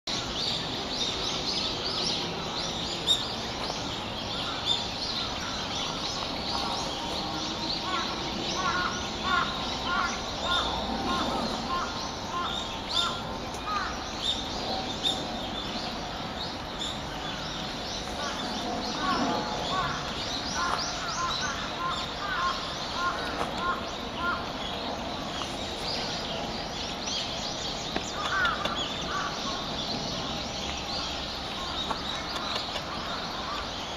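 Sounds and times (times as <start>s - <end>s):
woodland birds chirping: 0.2s - 33.9s
lower bird calls: 2.8s - 33.9s.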